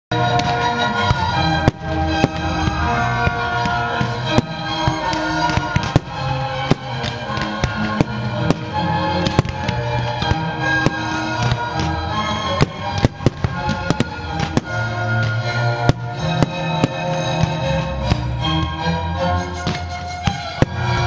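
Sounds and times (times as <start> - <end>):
fireworks bangs: 0.1 - 18.8, 19.6 - 21.0
music: 0.1 - 21.0.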